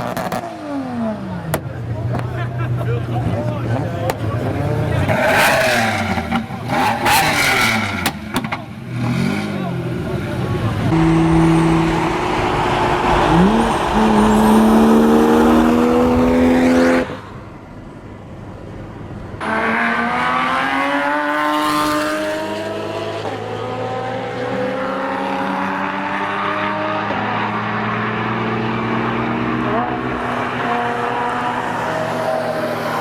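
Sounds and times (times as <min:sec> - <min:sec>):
car engine accelerating hard: 0:03.3 - 0:17.3, 0:19.4 - 0:33.0.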